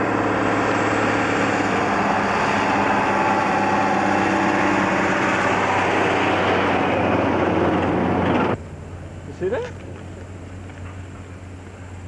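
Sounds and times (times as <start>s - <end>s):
truck passing with engine drone: 0.0s - 12.0s.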